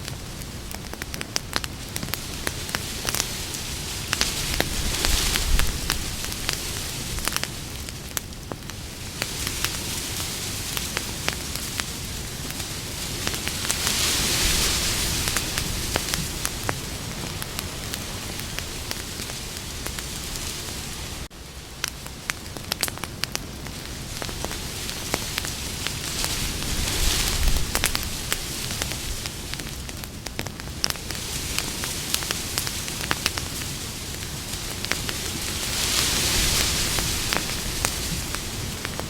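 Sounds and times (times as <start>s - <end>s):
campfire hissing: 0.0s - 39.0s
wood crackling and popping: 0.0s - 39.0s.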